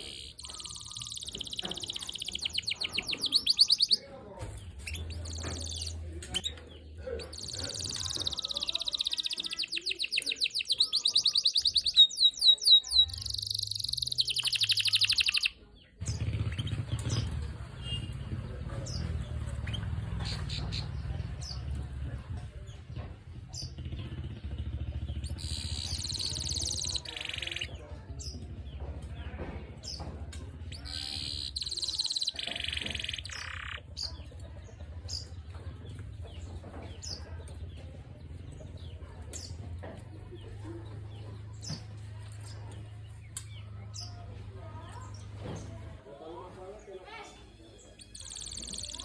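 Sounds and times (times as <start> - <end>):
canary singing: 0.0 - 45.8, 46.4 - 49.0.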